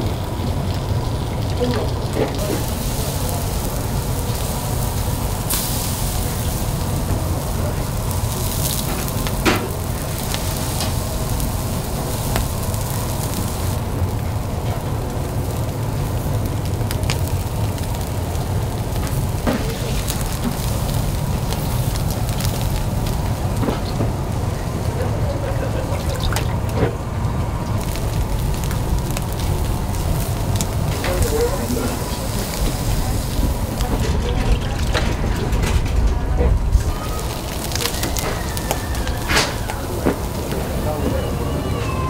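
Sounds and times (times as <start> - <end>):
steady low rumble: 0.0 - 41.8
fish sizzling on a charcoal grill: 0.0 - 42.0.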